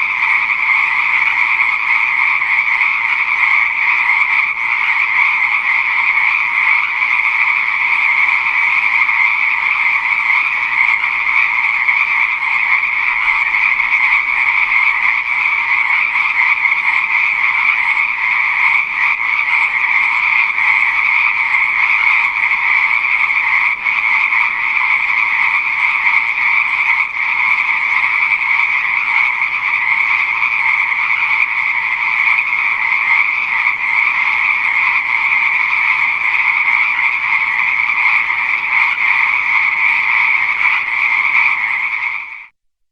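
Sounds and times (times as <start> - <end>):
frogs chorus: 0.0 - 42.6.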